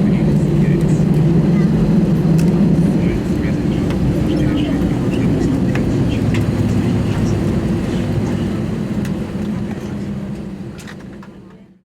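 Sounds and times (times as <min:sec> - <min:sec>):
jet engines idling: 0:00.0 - 0:11.8.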